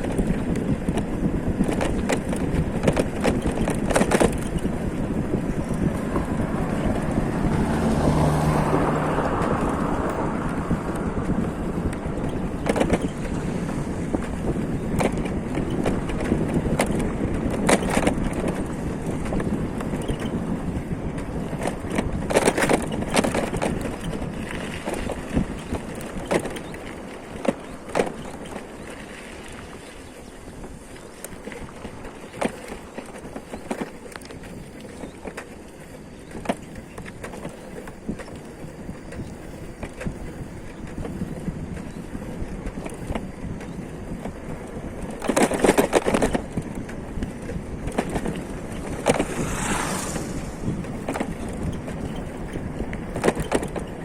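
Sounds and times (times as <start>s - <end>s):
knocks and rattles from bumps: 0.0s - 54.0s
vehicle rolling and wind noise: 0.0s - 54.0s.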